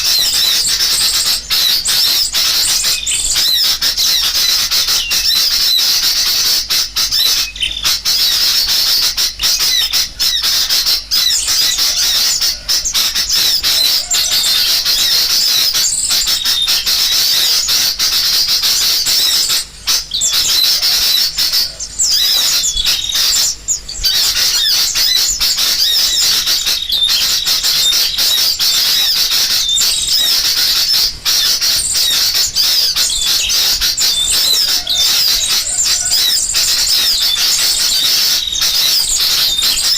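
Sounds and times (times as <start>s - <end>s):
bulbuls scolding calls: 0.0s - 39.9s
small birds twittering: 0.0s - 39.9s.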